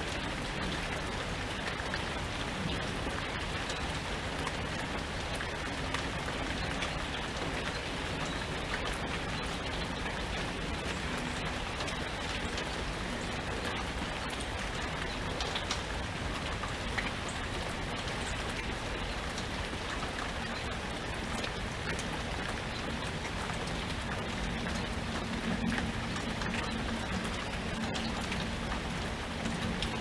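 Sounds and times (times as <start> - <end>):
raindrops ticking sharply: 0.0 - 30.0
steady rain falling: 0.0 - 30.0.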